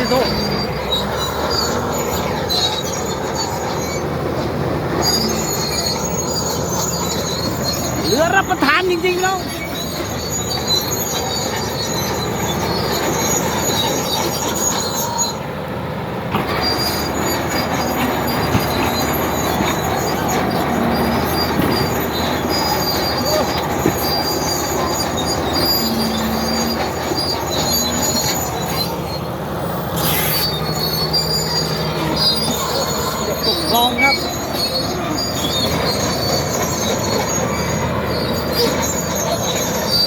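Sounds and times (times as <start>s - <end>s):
bulldozer engine running: 0.0s - 40.0s
metallic squeal of steel tracks: 0.0s - 40.0s.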